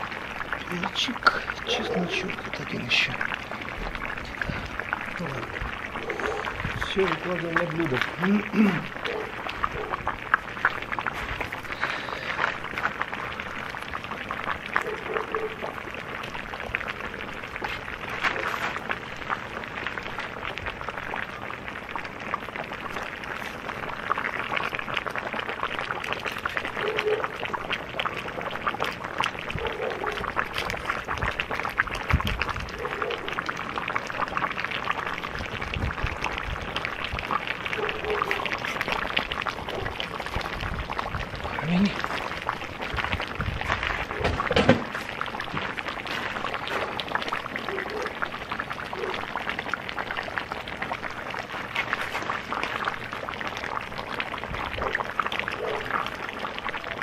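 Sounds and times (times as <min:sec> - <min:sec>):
stew sizzling and bubbling: 0:00.0 - 0:57.0.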